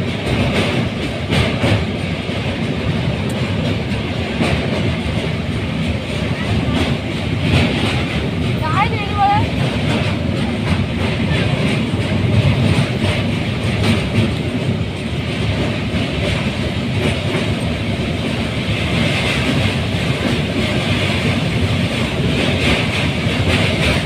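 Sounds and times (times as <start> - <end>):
train rumble on bridge: 0.0 - 24.0
wheel clatter over rails: 0.0 - 24.0.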